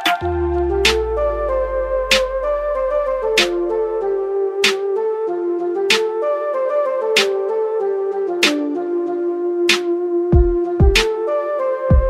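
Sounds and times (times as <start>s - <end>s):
flute-like melody: 0.0s - 12.0s.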